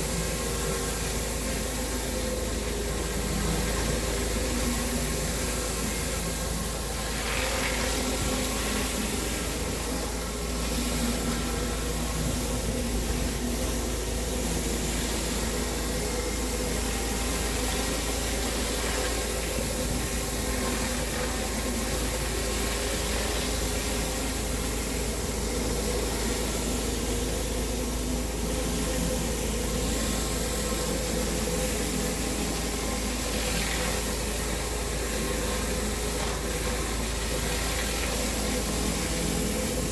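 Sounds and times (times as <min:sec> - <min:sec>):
high-pressure water spray hiss: 0:00.0 - 0:39.9.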